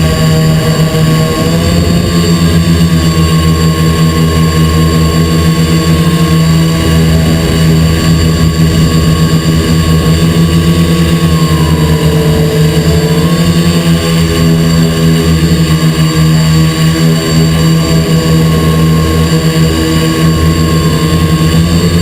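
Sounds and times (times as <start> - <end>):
high motor whine: 0.0 - 22.0
quadcopter motors droning: 0.0 - 22.0.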